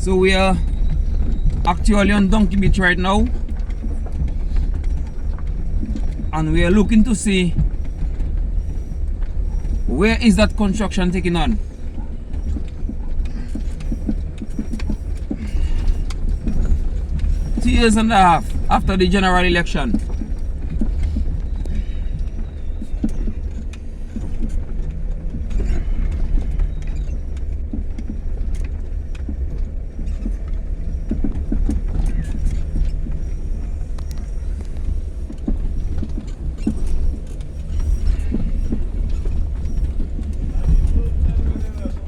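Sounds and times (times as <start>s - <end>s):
knocks and creaks: 0.0s - 42.0s
vehicle rumble on rough ground: 0.0s - 42.0s.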